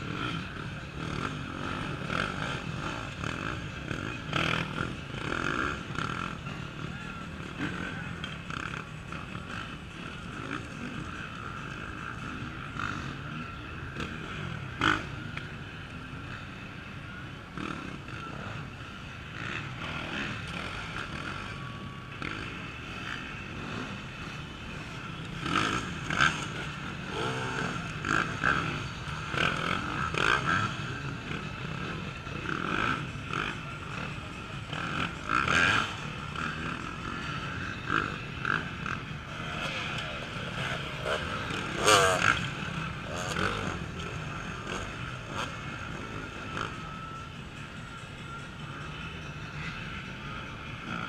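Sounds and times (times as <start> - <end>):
motorcycles revving: 0.0 - 51.0.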